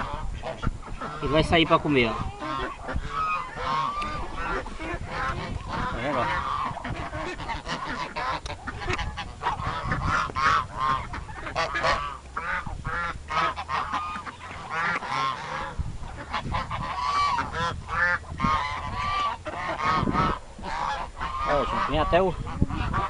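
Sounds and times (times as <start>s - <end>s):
waterfowl honking: 0.0s - 23.0s.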